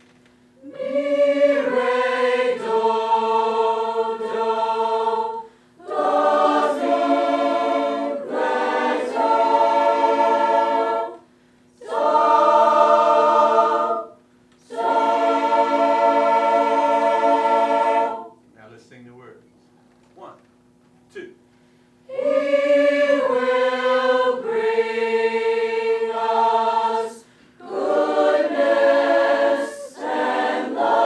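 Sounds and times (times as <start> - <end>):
mixed choir singing unaccompanied: 0.6 - 18.4, 22.0 - 31.0.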